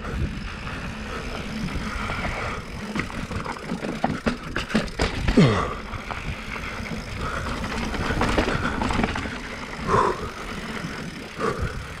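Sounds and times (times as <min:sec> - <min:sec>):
bike chain and frame rattling: 0:00.0 - 0:12.0
bike tyres on loose dirt and rock: 0:00.0 - 0:12.0
wind rumbling on microphone: 0:00.0 - 0:12.0.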